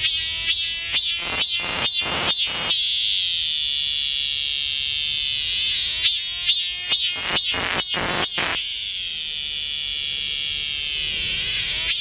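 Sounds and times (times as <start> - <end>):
cicada buzzing: 0.0 - 12.0.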